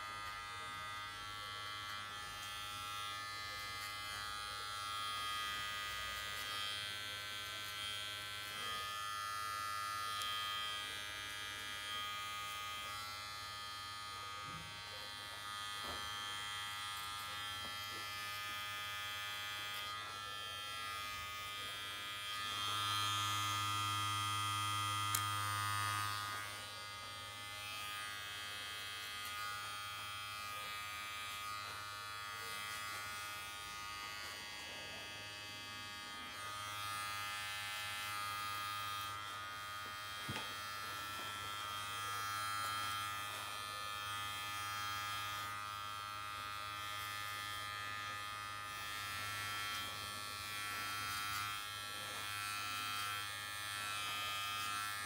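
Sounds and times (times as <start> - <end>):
hair trimmer buzzing: 0.0 - 55.0.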